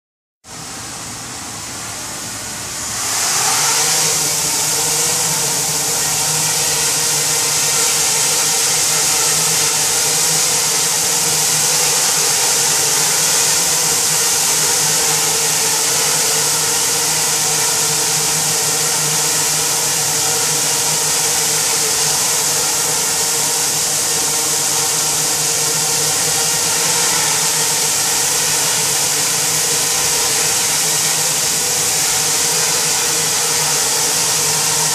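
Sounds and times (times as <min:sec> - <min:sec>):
drone propellers whirring: 0:00.6 - 0:34.9.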